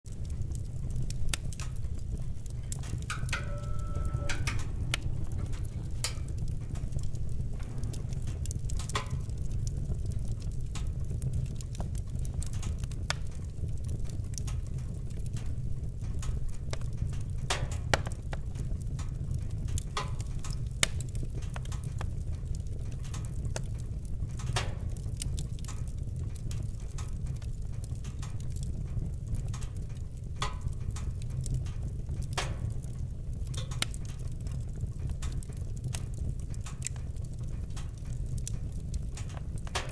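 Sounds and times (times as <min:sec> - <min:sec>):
fire crackling and popping: 0:00.0 - 0:39.9
fire rumbling: 0:00.1 - 0:39.9.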